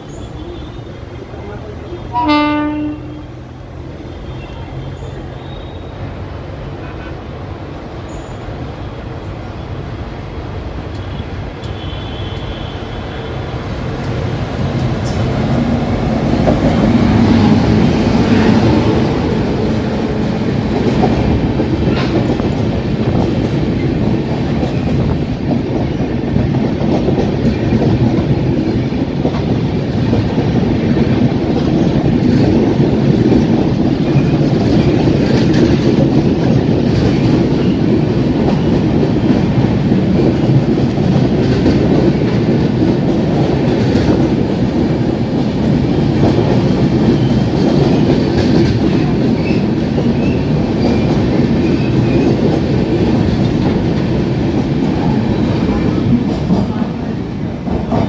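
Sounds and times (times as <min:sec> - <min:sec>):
passenger train passing at speed: 0:00.0 - 0:58.0.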